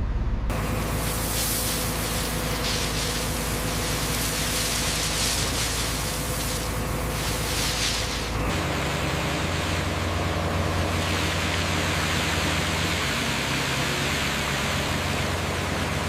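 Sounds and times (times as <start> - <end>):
low mechanical drone: 0.0 - 16.0
broad hiss: 0.5 - 14.9.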